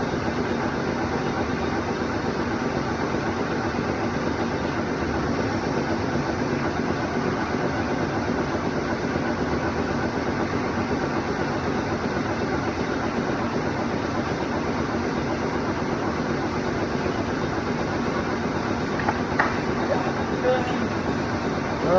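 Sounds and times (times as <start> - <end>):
cnc machine humming: 0.0 - 21.9.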